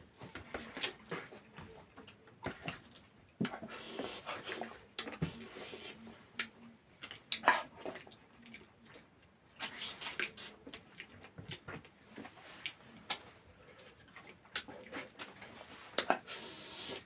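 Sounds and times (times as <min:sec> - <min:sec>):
wet chewing: 0:00.3 - 0:17.0.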